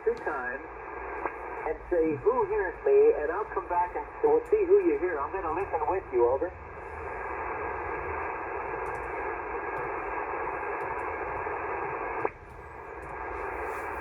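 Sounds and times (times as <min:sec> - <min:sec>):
radio click: 0:00.0 - 0:06.6, 0:07.4 - 0:14.0
radio receiver static hiss: 0:00.0 - 0:14.0.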